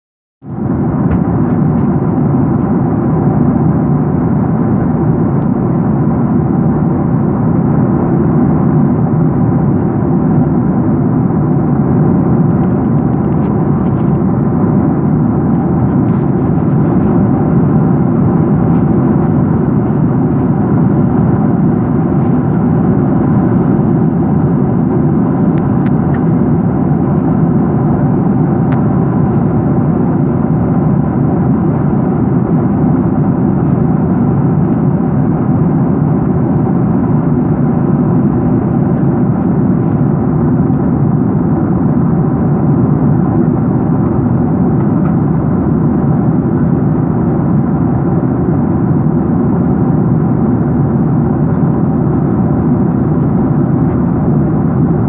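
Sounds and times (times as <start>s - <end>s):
airliner cabin engine drone: 0.4s - 55.0s.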